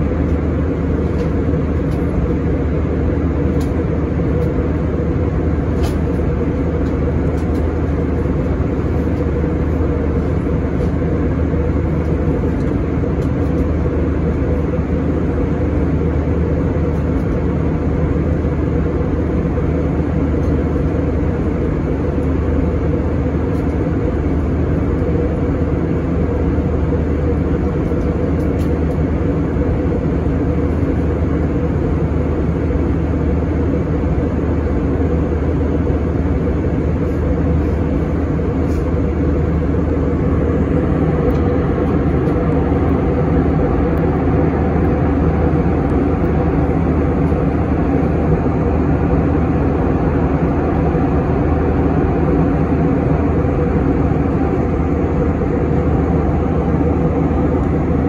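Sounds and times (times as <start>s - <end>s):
jet engines droning: 0.0s - 58.0s
low hum: 0.0s - 58.0s.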